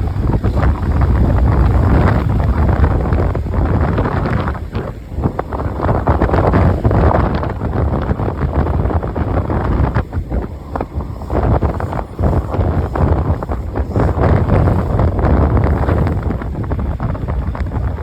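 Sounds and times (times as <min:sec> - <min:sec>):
motorcycle running: 0:00.0 - 0:18.0
wind buffeting microphone: 0:00.0 - 0:18.0.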